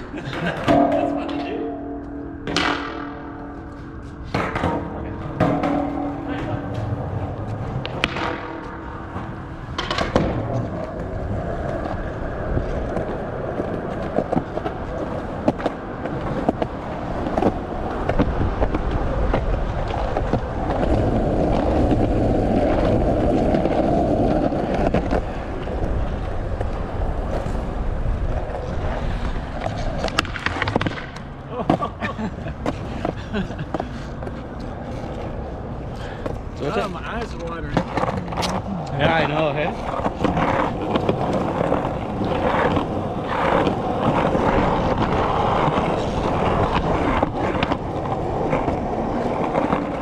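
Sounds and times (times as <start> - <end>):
skateboard wheels rumbling: 0.0 - 50.0
skateboard clacks and knocks: 0.2 - 35.4, 36.0 - 50.0.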